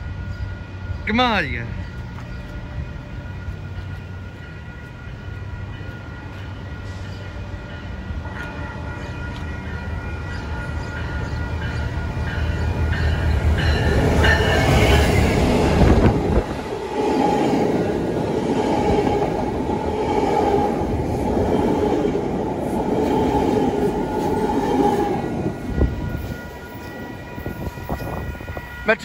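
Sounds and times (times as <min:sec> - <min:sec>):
diesel locomotive engine rumbling: 0:00.0 - 0:29.0
train wheels on rails: 0:01.8 - 0:29.0.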